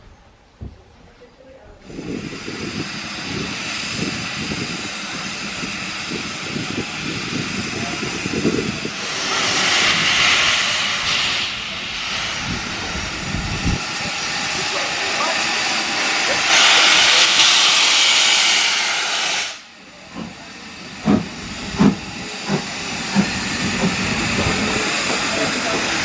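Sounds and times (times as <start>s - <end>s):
locomotive steam hissing: 1.6s - 26.0s.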